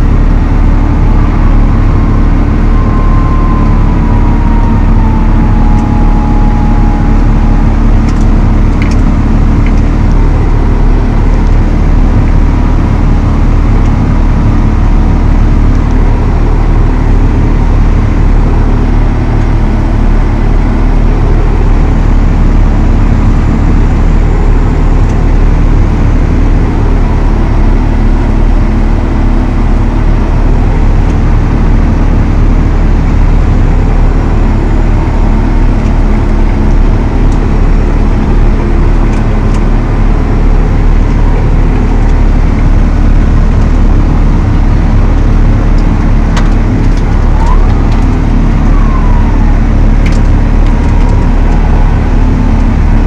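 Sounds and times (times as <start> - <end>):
faint whine sliding down: 0.0 - 53.0
tractor diesel engine running: 0.0 - 53.0.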